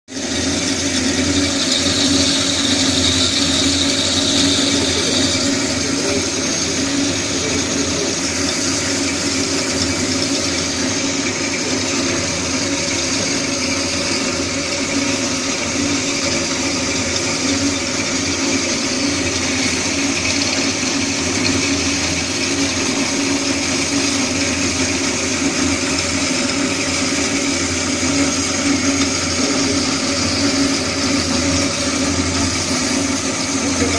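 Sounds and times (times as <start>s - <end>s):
band saw running: 0.1s - 33.9s.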